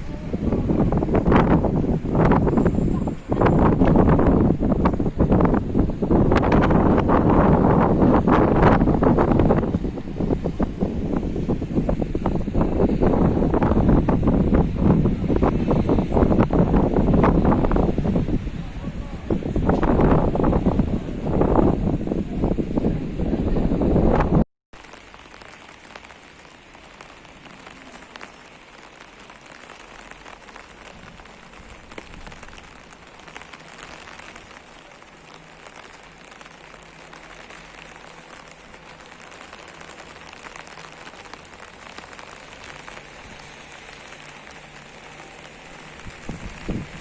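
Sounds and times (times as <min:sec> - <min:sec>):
rain falling on hard surfaces: 0:00.0 - 0:47.0.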